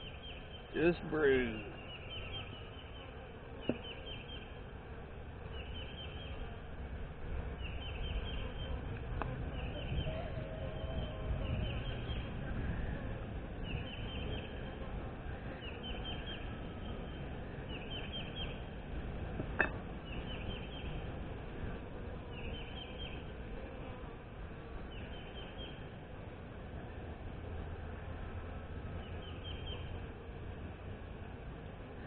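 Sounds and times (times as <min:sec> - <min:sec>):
honey bees humming: 0:00.0 - 0:32.0.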